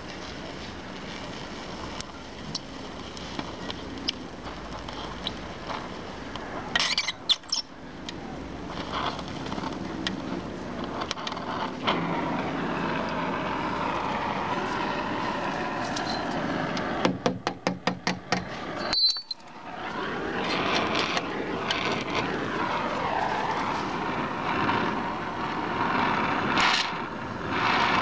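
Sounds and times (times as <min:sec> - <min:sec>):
welding torch flame hissing: 0:00.0 - 0:07.6, 0:10.1 - 0:17.1, 0:18.4 - 0:28.0
molten weld crackling and popping: 0:00.0 - 0:28.0.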